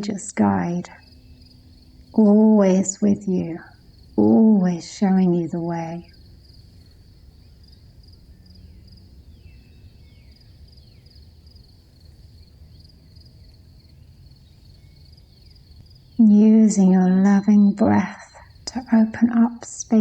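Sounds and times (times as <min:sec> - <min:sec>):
cricket chirping: 0:00.0 - 0:20.0
low rumbling background noise: 0:00.0 - 0:20.0.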